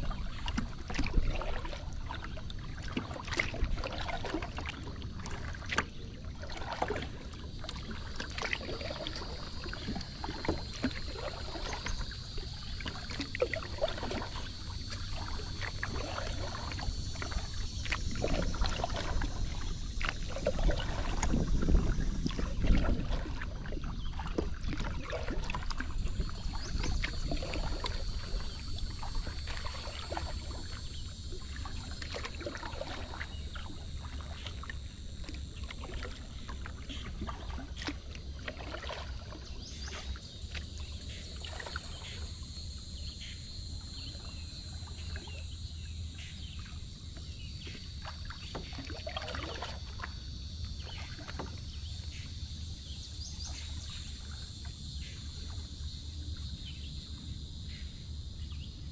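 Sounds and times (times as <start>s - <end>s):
paddle strokes splashing: 0.0s - 55.8s
water lapping against hull: 0.0s - 58.9s
high-pitched insect drone: 6.3s - 58.9s.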